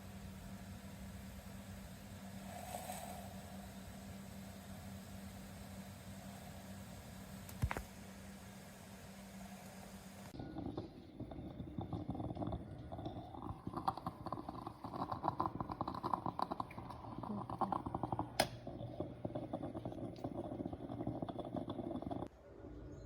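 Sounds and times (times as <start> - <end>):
moka pot gurgling and sputtering: 0.0 - 22.3.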